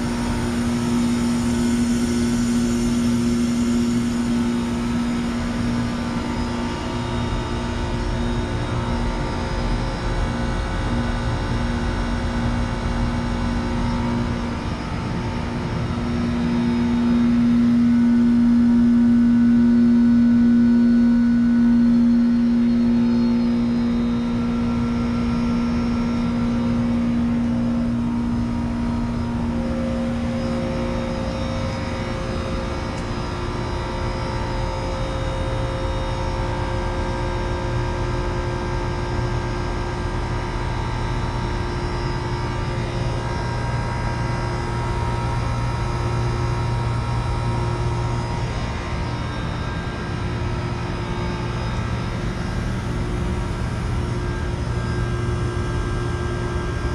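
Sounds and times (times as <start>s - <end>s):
heat pump compressor humming: 0.0s - 56.9s
strong drone: 0.0s - 56.9s.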